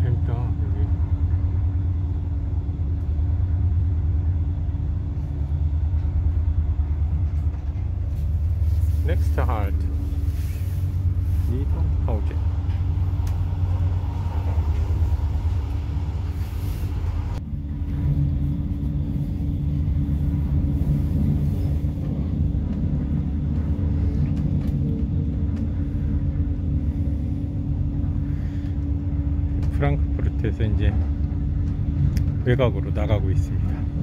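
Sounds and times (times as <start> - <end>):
train rumble and hum: 0.0 - 34.0.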